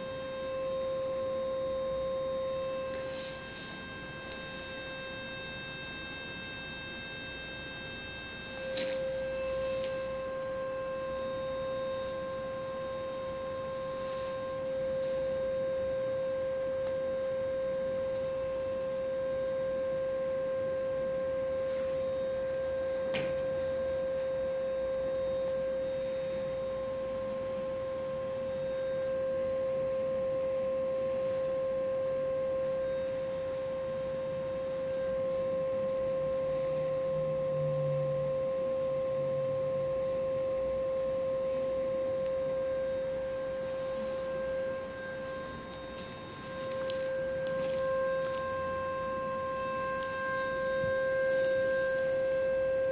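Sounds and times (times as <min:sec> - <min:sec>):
pure tone: 0:00.0 - 0:52.9.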